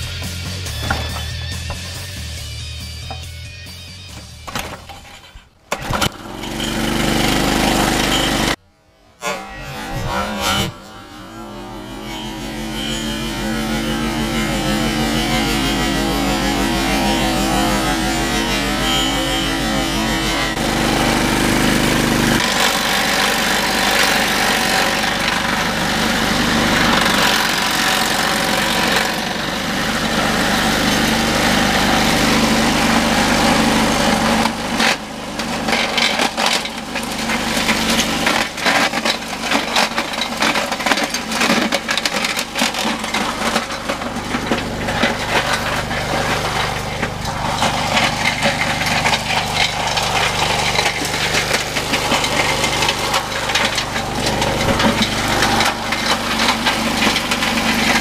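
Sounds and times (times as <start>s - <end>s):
wood chipper engine running: 0.0s - 8.6s, 9.4s - 58.0s
wood cracking and splintering: 0.6s - 2.1s, 4.4s - 8.6s, 12.3s - 58.0s.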